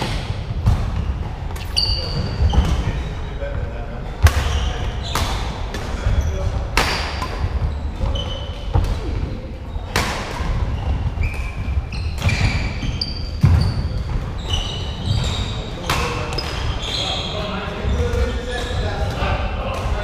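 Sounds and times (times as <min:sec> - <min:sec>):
shoes squeaking: 0:01.1 - 0:19.0.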